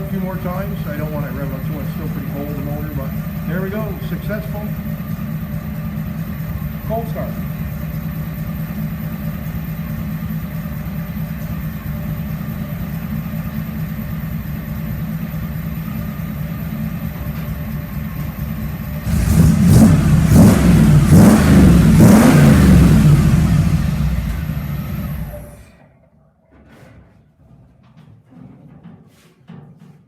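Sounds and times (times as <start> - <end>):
truck engine idling and revving: 0.0 - 25.8.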